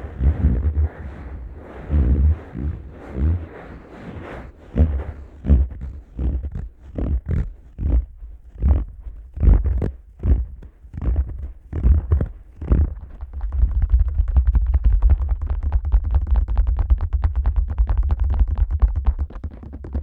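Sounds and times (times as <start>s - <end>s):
fingers patting microphone: 0.0s - 20.0s.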